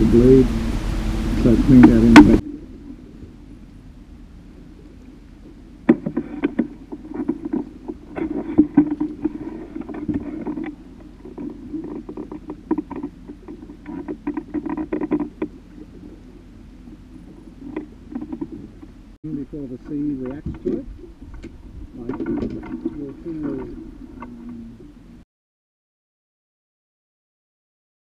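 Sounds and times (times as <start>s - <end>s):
rustling: 0.0s - 25.2s.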